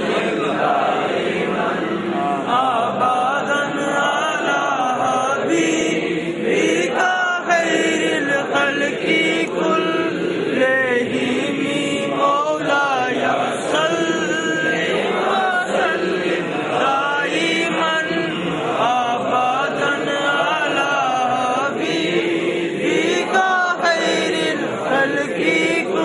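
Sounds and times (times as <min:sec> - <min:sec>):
person chanting unaccompanied: 0:00.0 - 0:26.0.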